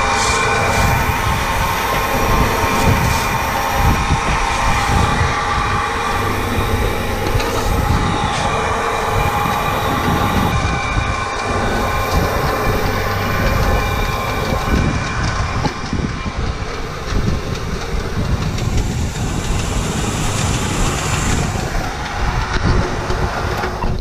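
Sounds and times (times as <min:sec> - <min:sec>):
grain auger machinery running: 0:00.0 - 0:24.0.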